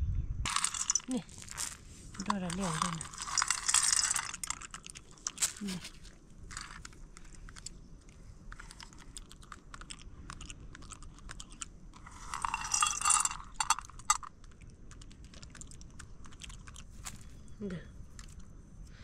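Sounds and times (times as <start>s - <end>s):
person chewing: 0.5s - 18.5s.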